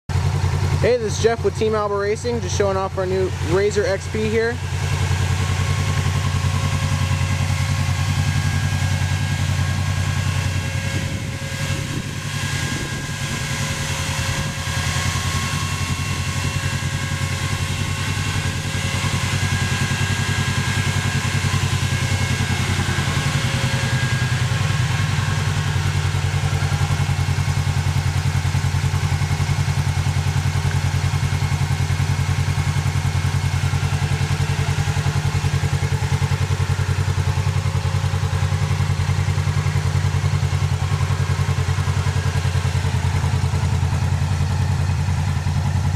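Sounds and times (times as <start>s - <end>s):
engine idling: 0.1s - 45.9s.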